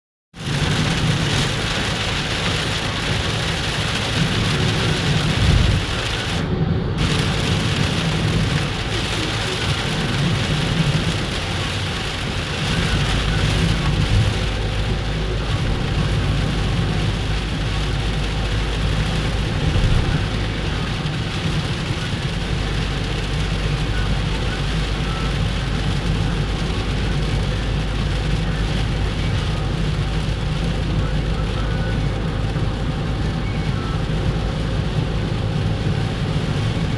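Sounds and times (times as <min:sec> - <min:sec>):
heavy rain falling: 0:00.4 - 0:36.9
low rumble: 0:00.4 - 0:36.9.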